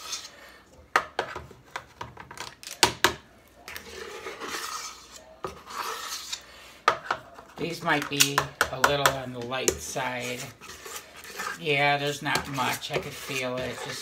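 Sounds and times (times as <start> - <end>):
spoon scraping mixing bowl: 0.0 - 2.6, 3.5 - 14.0.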